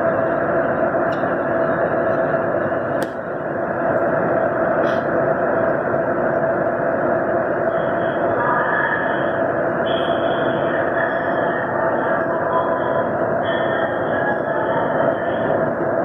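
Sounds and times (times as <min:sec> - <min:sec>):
train car running noise: 0:00.0 - 0:16.0.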